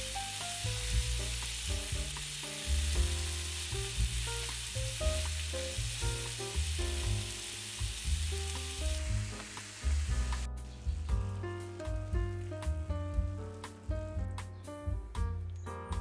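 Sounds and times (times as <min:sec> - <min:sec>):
vegetables sizzling in a pan: 0:00.0 - 0:14.0
light background music: 0:00.0 - 0:16.0.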